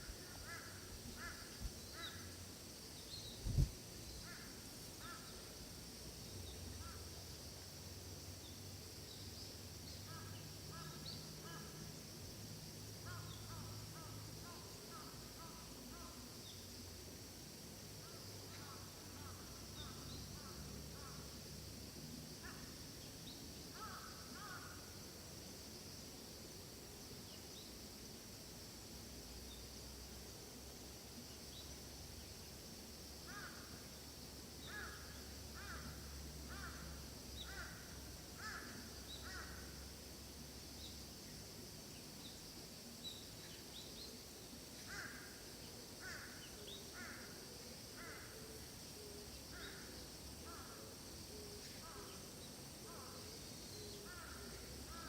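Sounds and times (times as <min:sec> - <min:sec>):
small birds chirping faintly: 0:00.0 - 0:55.0
steady high hiss: 0:00.0 - 0:55.0.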